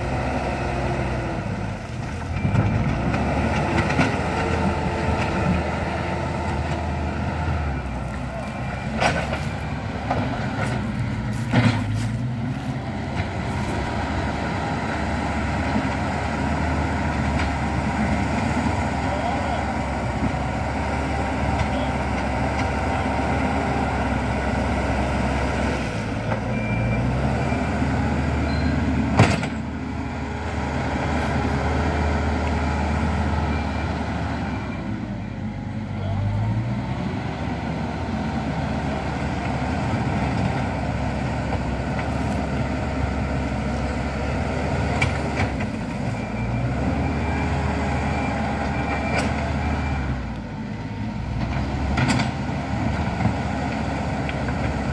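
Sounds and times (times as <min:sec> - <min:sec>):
heavy diesel machinery engine: 0:00.0 - 0:54.9.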